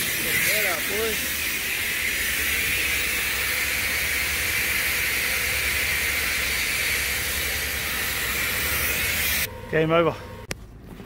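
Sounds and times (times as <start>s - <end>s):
steady hissing: 0.0s - 9.5s
crane low rumble: 0.0s - 10.8s.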